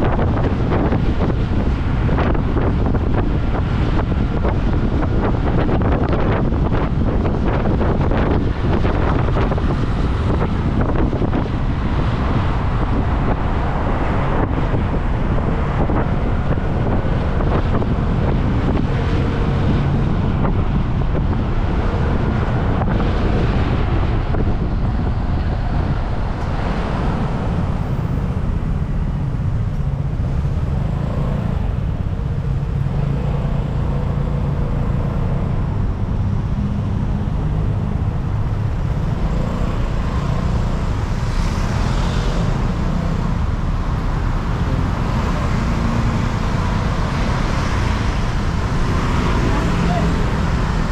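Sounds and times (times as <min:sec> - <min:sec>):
road and traffic noise: 0:00.0 - 0:50.9
wind rushing over microphone: 0:00.0 - 0:50.9.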